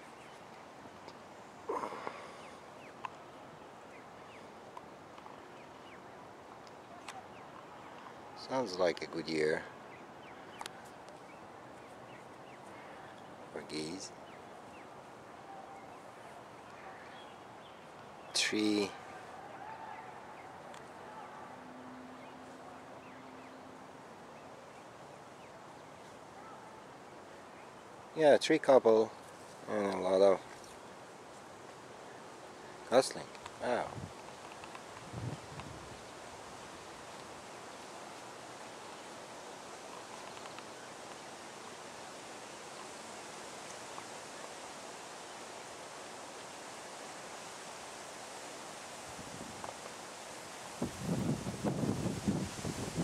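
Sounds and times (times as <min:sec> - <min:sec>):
faint outdoor hush: 0:00.0 - 0:53.0.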